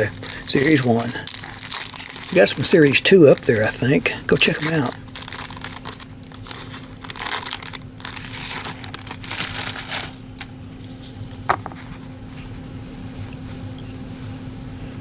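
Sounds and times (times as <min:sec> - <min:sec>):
wax paper wrapper crinkling: 0:00.0 - 0:15.0.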